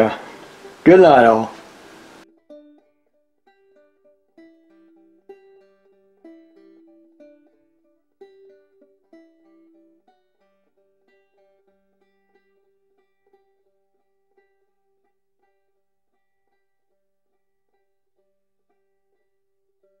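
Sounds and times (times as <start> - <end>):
plucked string instrumental tune: 0.0 - 20.0.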